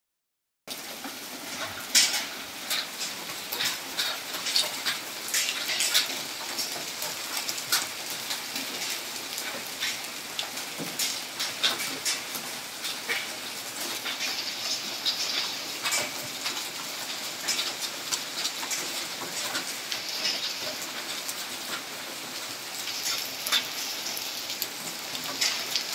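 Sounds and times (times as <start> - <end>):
rain falling: 0.7 - 25.9
raindrops tapping close by: 0.7 - 25.9.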